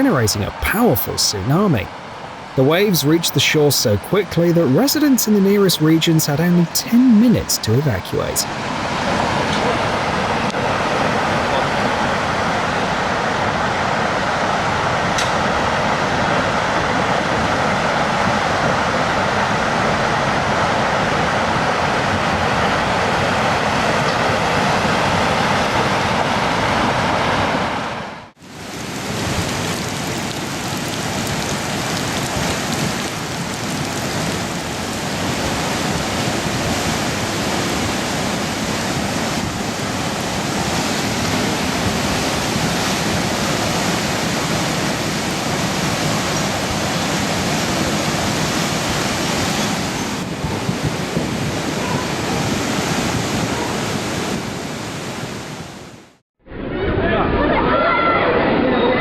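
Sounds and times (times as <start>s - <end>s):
floodwater rushing: 0.0s - 28.0s, 28.6s - 55.6s.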